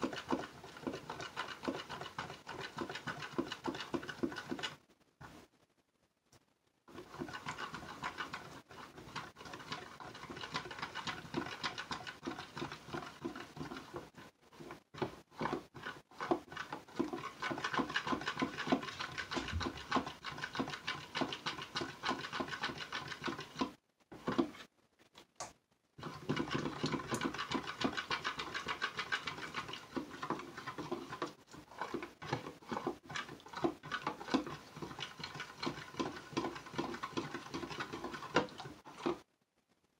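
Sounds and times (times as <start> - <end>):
metal fork scraping plastic pitcher: 0.0 - 4.8, 6.9 - 24.7, 26.0 - 39.2.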